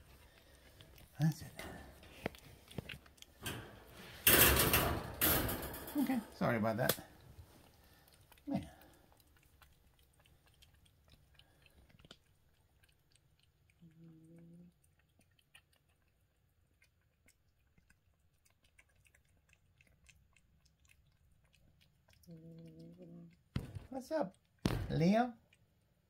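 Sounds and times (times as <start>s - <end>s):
kittens chewing: 0.0s - 4.3s, 5.8s - 26.0s.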